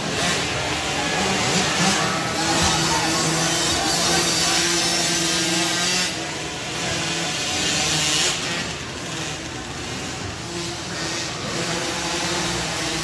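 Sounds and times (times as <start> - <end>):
dirt bike engines buzzing and revving: 0.0 - 13.0.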